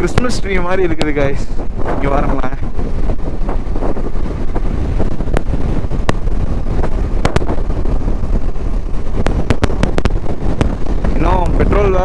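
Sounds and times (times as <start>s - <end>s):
motorcycle rumble: 0.0s - 12.0s
wind buffeting microphone: 0.0s - 12.0s.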